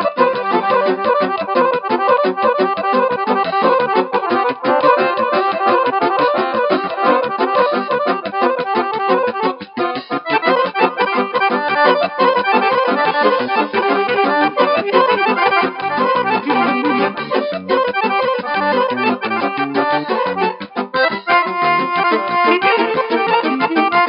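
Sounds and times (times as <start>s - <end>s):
live band music with accordion: 0.0s - 24.0s.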